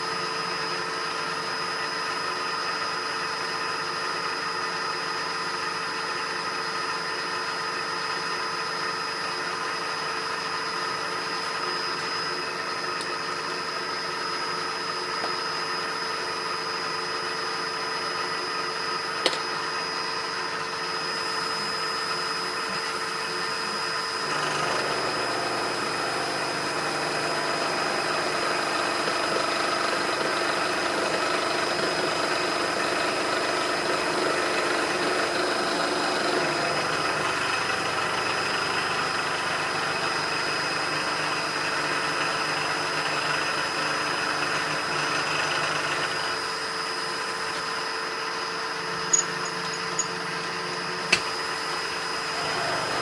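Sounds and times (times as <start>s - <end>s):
metal lathe whining hum: 0.0s - 53.0s.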